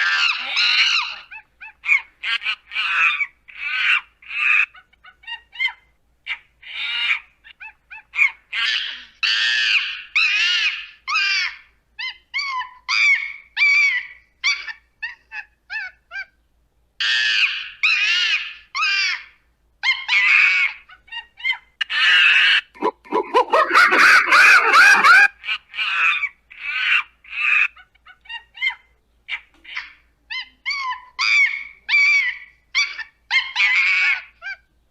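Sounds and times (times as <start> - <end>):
monkey screaming: 0.0 - 16.4, 17.0 - 34.6.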